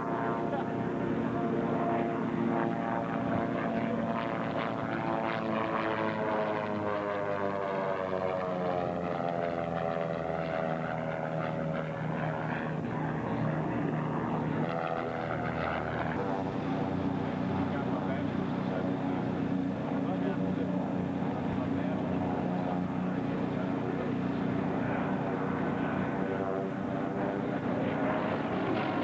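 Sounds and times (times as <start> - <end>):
propeller plane droning past: 0.0 - 29.0.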